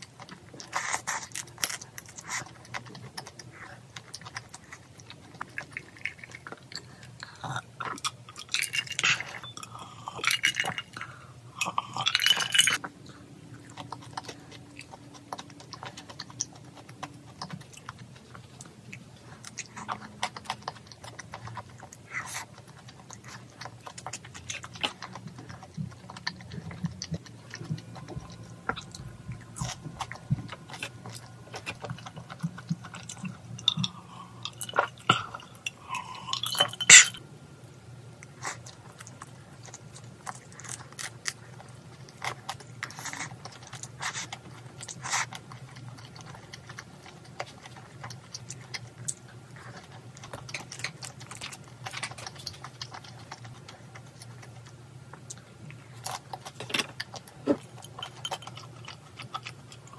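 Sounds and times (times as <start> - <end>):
wet chewing and mouth clicks: 0.0 - 59.9.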